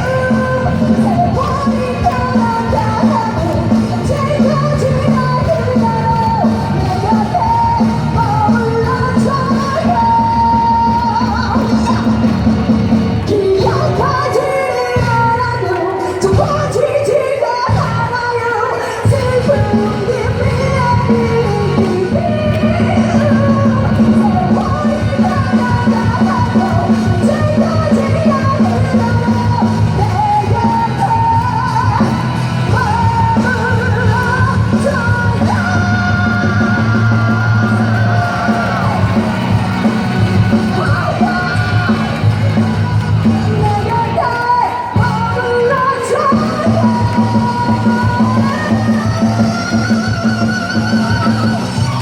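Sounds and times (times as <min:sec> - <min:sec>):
pop-rock band playing: 0:00.0 - 0:17.2, 0:18.9 - 0:52.0
woman singing: 0:00.0 - 0:52.0.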